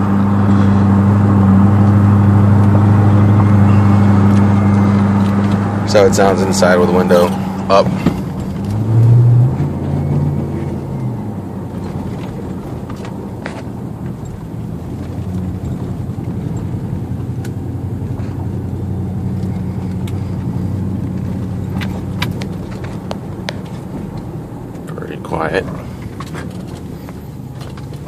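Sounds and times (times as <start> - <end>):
car engine drone inside cabin: 0.0 - 28.0
road noise: 0.0 - 28.0.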